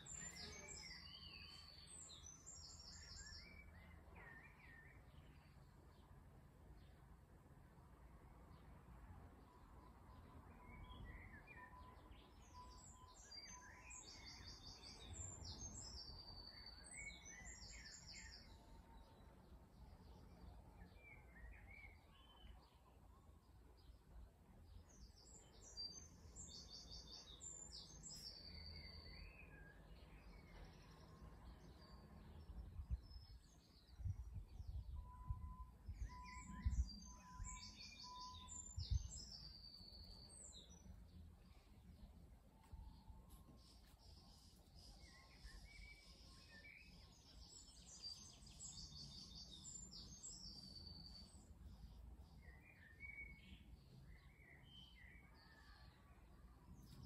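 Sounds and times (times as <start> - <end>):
faint background noise: 0.0 - 57.0.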